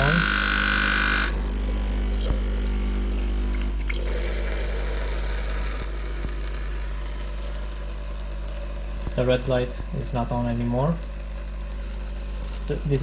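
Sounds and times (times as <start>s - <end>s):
coffee machine pump humming: 0.0s - 13.0s.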